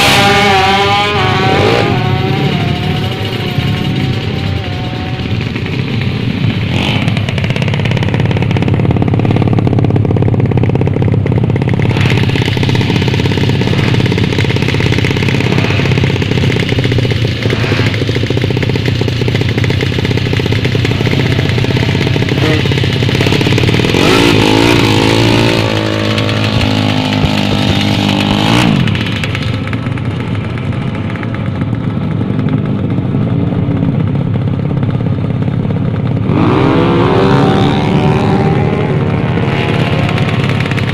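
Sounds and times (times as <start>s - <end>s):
motorcycle engines revving: 0.0s - 40.9s.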